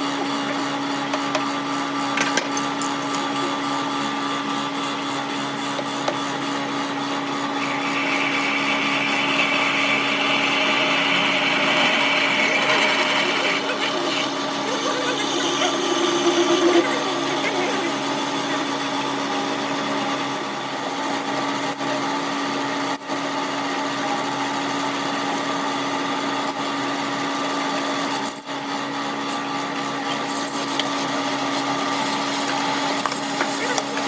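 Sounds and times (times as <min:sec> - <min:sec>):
power tool humming: 0:02.8 - 0:34.0.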